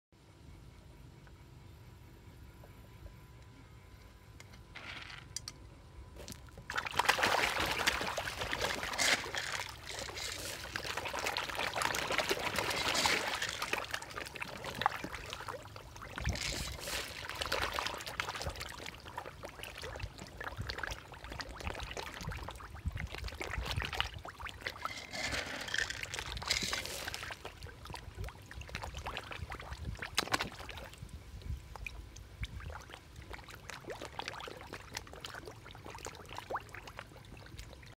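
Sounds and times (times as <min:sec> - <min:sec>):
water splashing from feeding fish: 0:06.6 - 0:31.1, 0:31.7 - 0:37.9.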